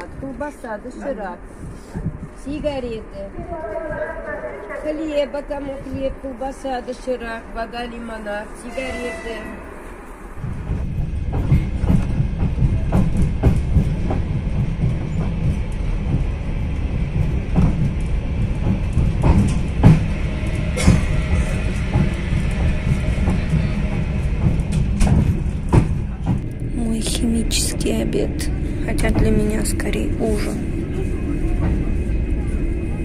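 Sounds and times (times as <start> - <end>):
train knocks and clatter: 0.0 - 9.7, 10.4 - 33.0
train wheels rumbling on rails: 0.0 - 33.0.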